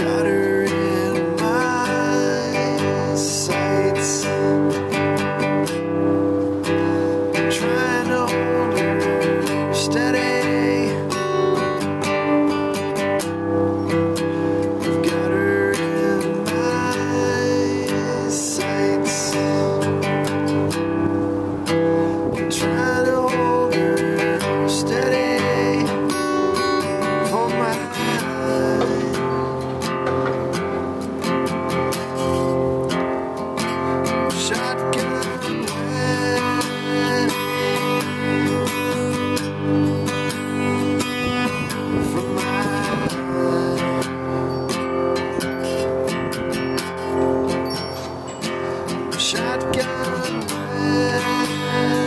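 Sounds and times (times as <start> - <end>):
guitar strummed and picked: 0.0 - 52.0.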